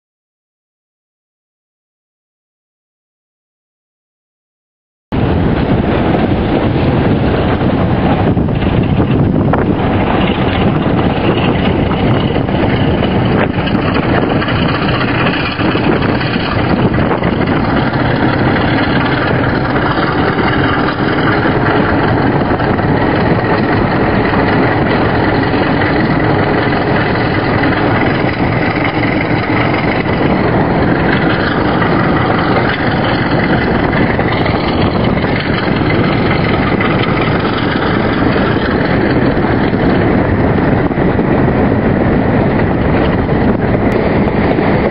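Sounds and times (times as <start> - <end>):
diesel locomotive engine running: 5.2 - 44.9.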